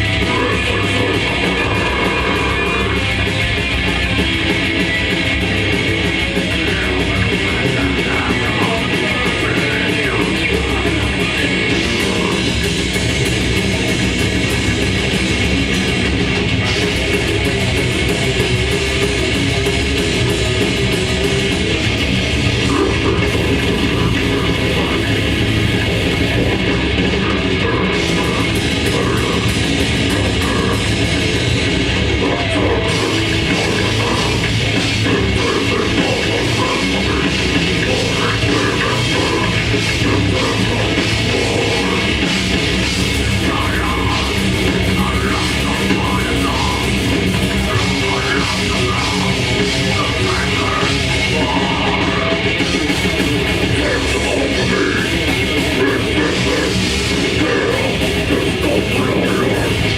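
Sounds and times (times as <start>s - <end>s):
grindcore band playing live: 0.0s - 59.9s.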